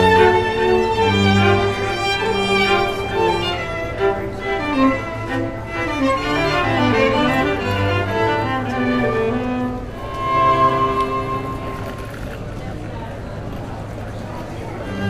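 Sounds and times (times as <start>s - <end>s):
violins playing melody: 0.0s - 12.5s, 14.4s - 15.0s
cello: 0.0s - 15.0s.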